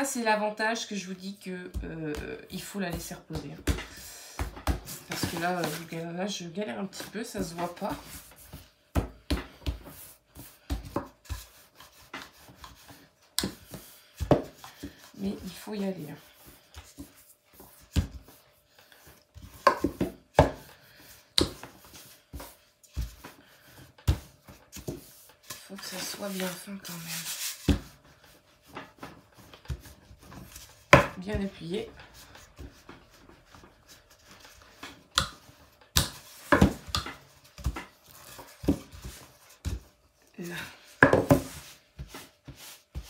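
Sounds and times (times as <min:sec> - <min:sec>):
rolling pin rolling dough: 0:01.6 - 0:43.0.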